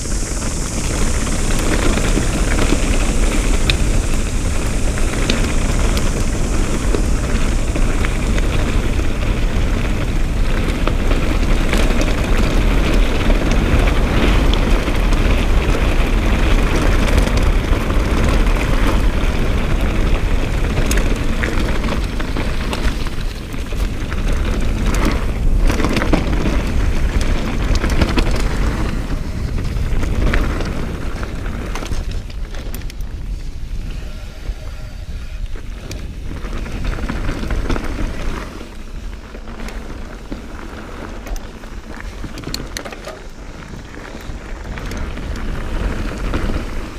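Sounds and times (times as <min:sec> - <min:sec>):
bike clicks and rattles: 0:00.0 - 0:46.9
bike tyres rolling on dirt: 0:00.0 - 0:46.9
wind buffeting microphone: 0:00.0 - 0:46.9.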